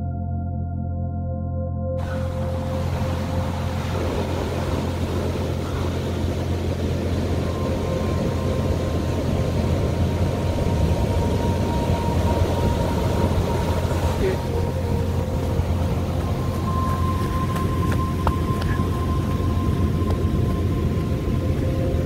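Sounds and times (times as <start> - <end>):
ocean surf rushing on beach: 2.0 - 22.0.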